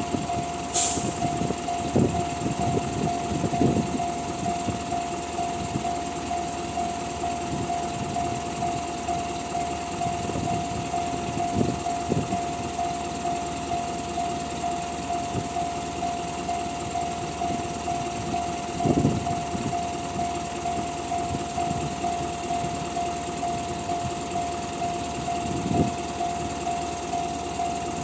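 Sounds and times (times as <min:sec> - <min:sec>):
level crossing warning bell: 0:01.3 - 0:28.0.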